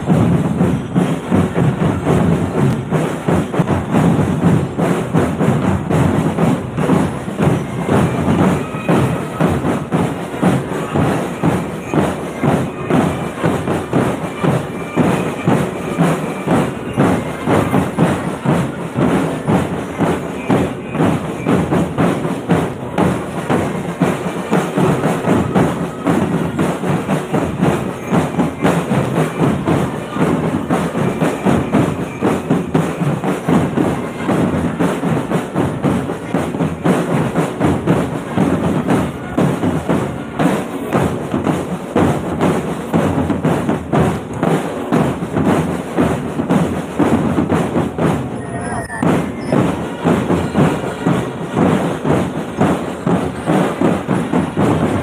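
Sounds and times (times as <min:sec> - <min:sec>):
marching drum band: 0:00.0 - 0:55.0.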